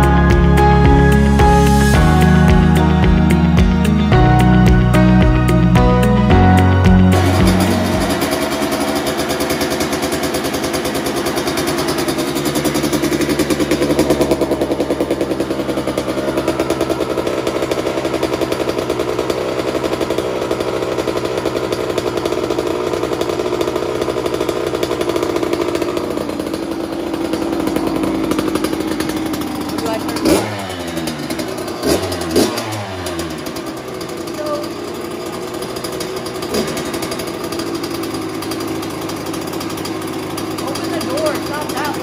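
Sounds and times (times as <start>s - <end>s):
two-stroke motorcycle engine running: 0.0s - 42.0s.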